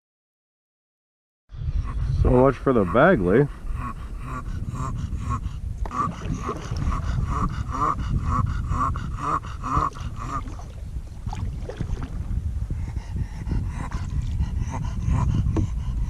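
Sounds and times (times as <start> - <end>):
wind noise on microphone: 1.5 - 16.0.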